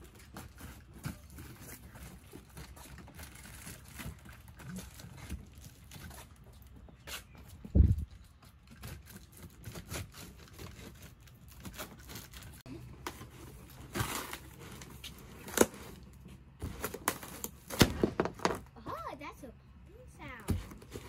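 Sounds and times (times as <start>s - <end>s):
cardboard scraping and tearing: 0.0s - 7.5s, 8.4s - 18.7s, 20.2s - 21.0s.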